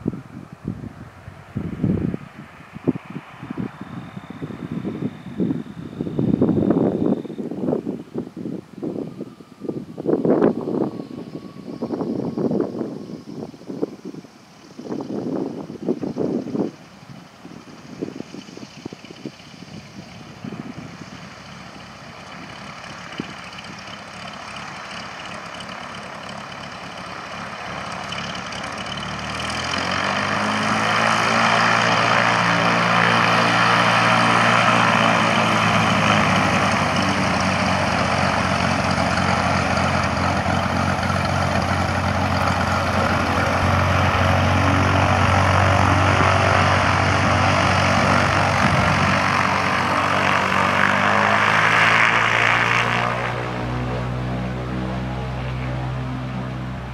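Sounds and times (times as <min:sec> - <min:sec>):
propeller plane engine droning: 0:00.0 - 0:56.9.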